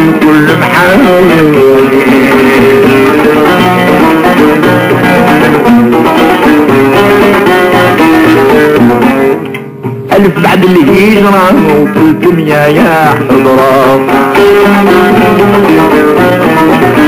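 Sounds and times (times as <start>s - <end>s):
plucked string ensemble melody: 0.0s - 17.0s.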